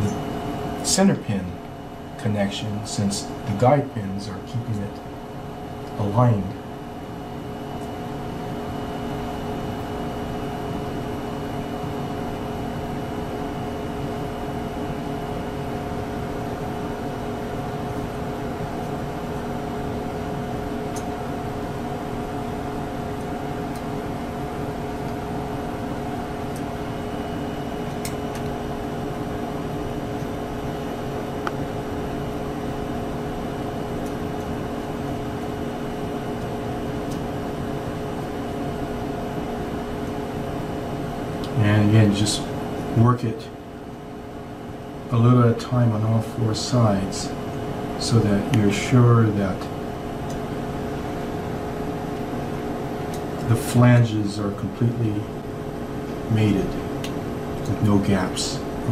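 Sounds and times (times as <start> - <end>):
cooling fans humming: 0.0 - 58.9.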